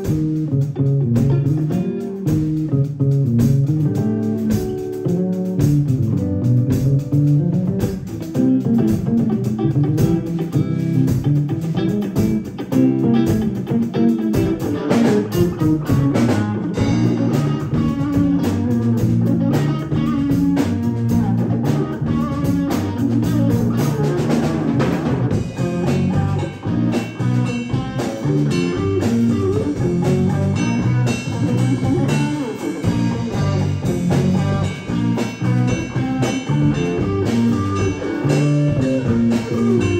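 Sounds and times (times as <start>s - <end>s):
drum kit: 0.0s - 39.9s
electric bass guitar: 0.0s - 39.9s
electric guitar: 0.0s - 39.9s.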